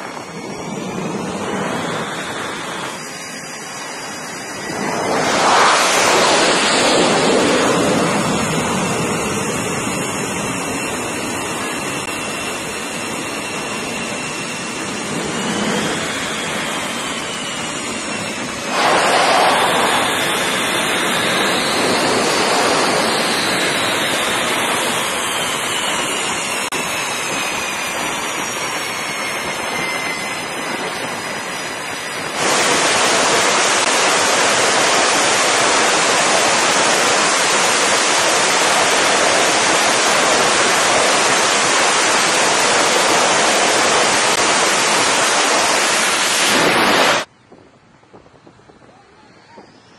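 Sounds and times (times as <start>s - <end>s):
jet engines roaring: 0.0s - 47.3s
high turbine whine: 0.0s - 49.9s.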